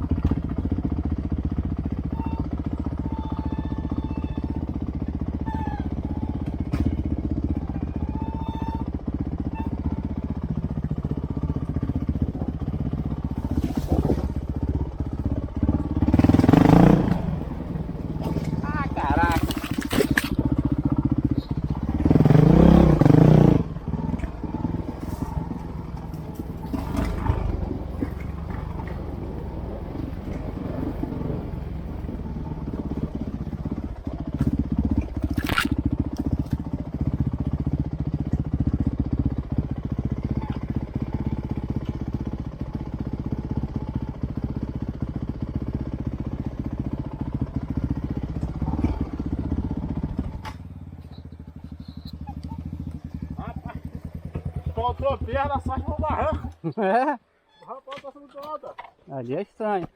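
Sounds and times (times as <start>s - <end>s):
motorcycle engine revving: 0.0s - 56.8s.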